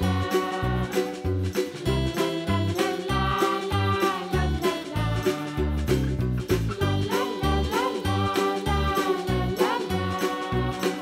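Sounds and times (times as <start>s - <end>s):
music with bass beat: 0.0s - 11.0s.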